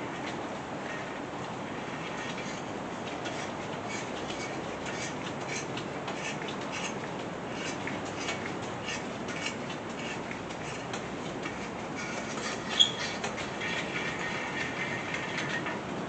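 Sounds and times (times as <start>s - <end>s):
thread chaser clicking and scraping: 0.0s - 15.9s.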